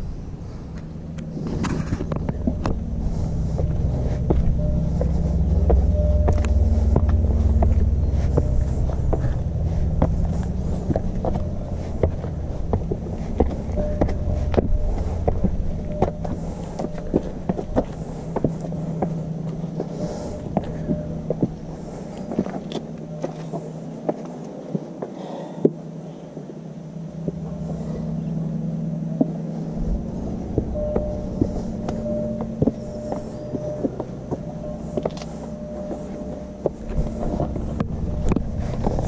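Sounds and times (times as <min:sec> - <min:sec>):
vehicle engine hum: 0:00.0 - 0:39.0
footsteps on rocky trail: 0:00.7 - 0:25.8, 0:27.2 - 0:39.0.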